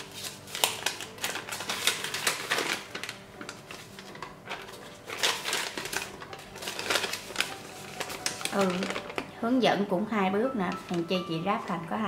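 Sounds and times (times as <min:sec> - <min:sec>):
plastic and paper crinkling: 0:00.0 - 0:09.9, 0:10.5 - 0:12.0.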